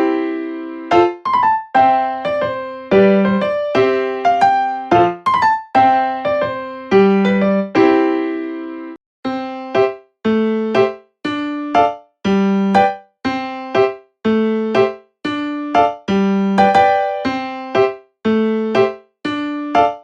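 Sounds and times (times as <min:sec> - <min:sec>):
electric piano playing chords: 0:00.0 - 0:20.0.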